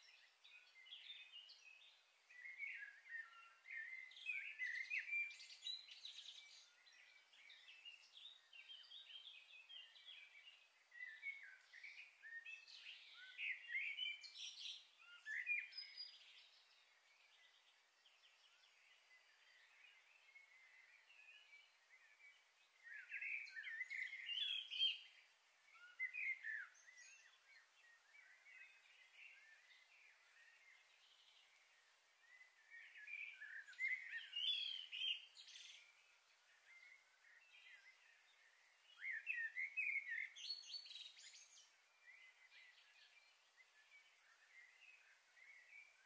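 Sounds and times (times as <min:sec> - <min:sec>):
faint bird chirps: 0:00.0 - 0:46.0
faint steady hiss: 0:00.0 - 0:46.0.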